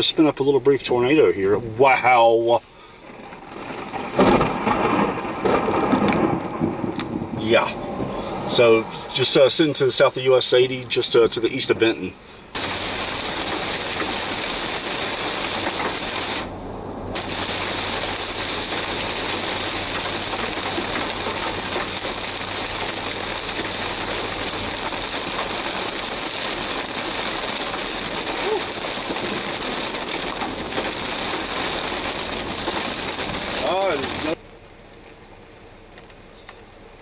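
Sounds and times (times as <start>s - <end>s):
rain and hail on vehicle: 0.0s - 37.0s.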